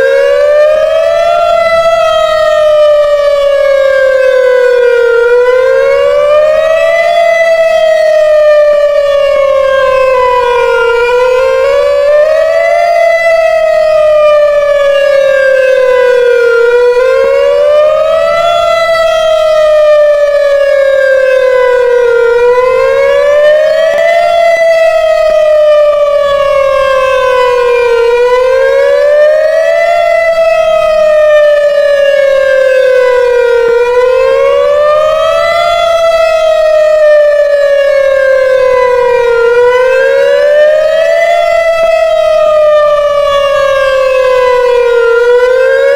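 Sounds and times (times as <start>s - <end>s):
warning siren wailing: 0.0s - 45.9s.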